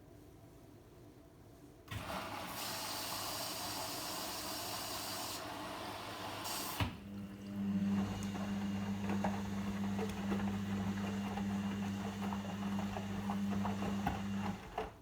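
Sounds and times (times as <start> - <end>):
water spraying into washing machine: 1.9 - 14.8
pump humming: 2.0 - 14.7.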